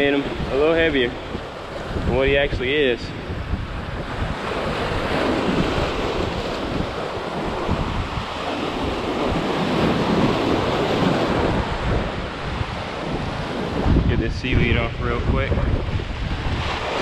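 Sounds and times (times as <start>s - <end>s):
surf breaking over rocks: 0.0s - 17.0s
wind buffeting microphone: 0.0s - 17.0s.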